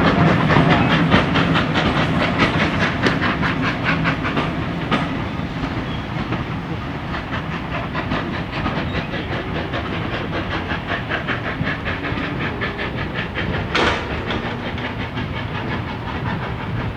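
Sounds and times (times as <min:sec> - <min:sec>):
steam locomotive chuffing: 0:00.0 - 0:16.9.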